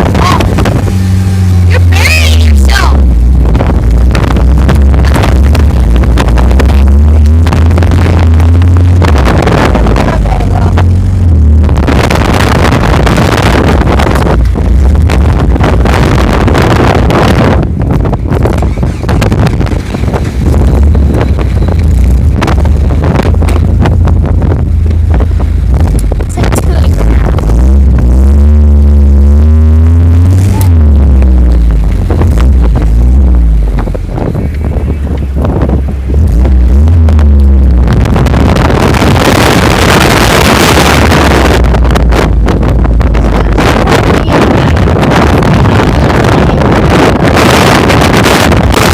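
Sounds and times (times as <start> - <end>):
off-road vehicle rumbling: 0.0 - 48.9
wind buffeting microphone: 0.0 - 48.9.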